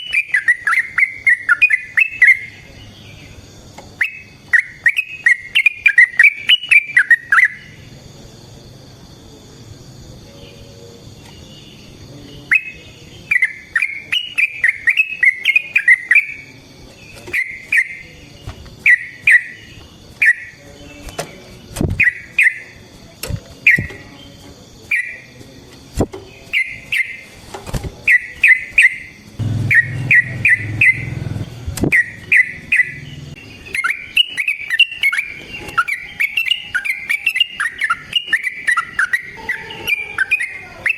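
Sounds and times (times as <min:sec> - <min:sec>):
bulbul singing: 0:00.0 - 0:08.1, 0:10.2 - 0:27.4, 0:28.0 - 0:40.9.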